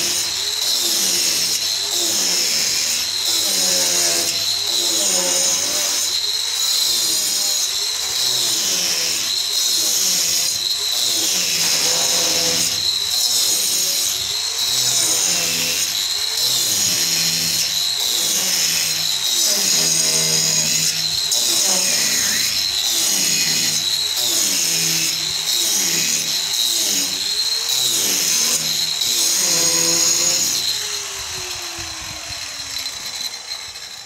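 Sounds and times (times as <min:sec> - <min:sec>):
angle grinder cutting concrete: 0:00.0 - 0:34.0.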